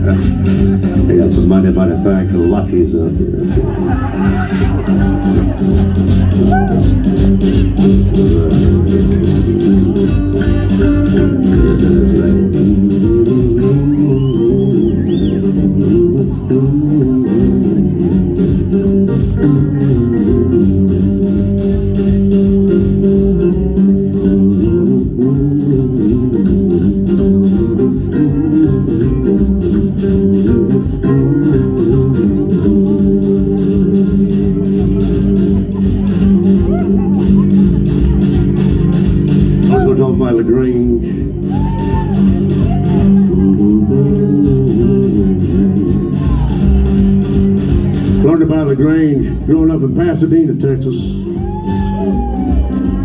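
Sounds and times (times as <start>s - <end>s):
drums keeping a beat: 0.0s - 53.0s
electric guitar: 0.0s - 53.0s
pedal steel guitar: 0.0s - 53.0s
upright bass: 0.0s - 53.0s.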